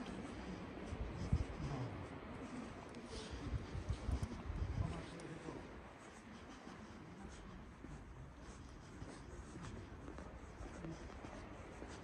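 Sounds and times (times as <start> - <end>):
faint distant voices: 0.0 - 12.0
soft footsteps: 2.4 - 12.0.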